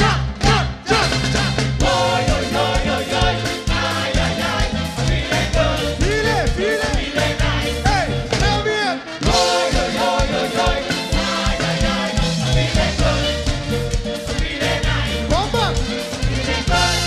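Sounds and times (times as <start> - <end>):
driving drum beat: 0.0 - 17.0
live band music with horns: 0.0 - 17.0.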